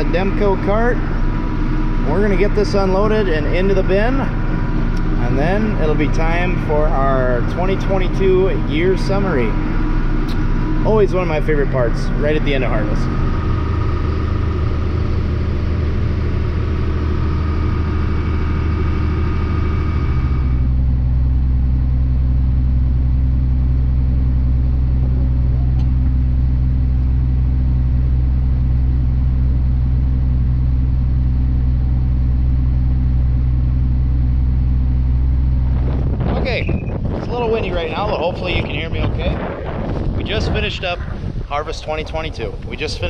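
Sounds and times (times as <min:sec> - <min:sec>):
engine whine: 0:00.0 - 0:43.0
tractor diesel engine running: 0:00.0 - 0:43.0.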